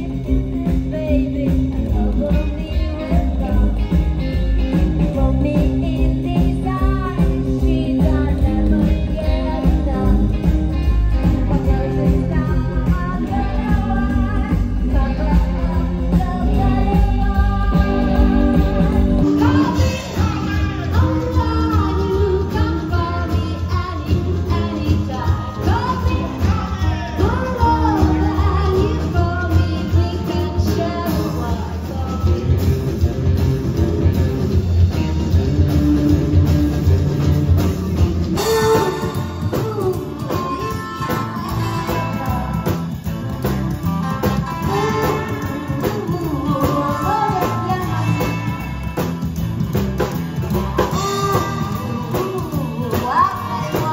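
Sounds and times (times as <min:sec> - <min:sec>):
woman singing: 0:00.0 - 0:32.7, 0:38.3 - 0:49.5, 0:50.5 - 0:53.9
live rockabilly band: 0:00.0 - 0:53.9.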